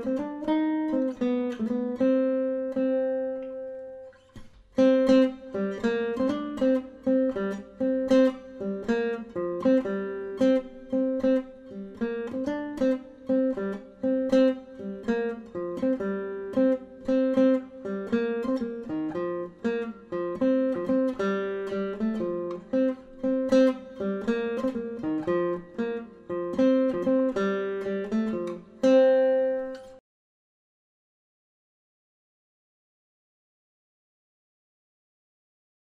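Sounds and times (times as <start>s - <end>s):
acoustic guitar picking: 0.0s - 30.0s.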